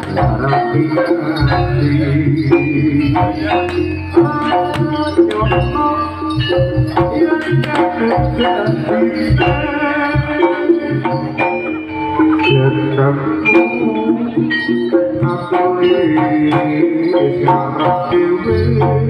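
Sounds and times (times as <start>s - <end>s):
hand drums beating: 0.0s - 19.0s
struck metal percussion ringing: 0.0s - 19.0s.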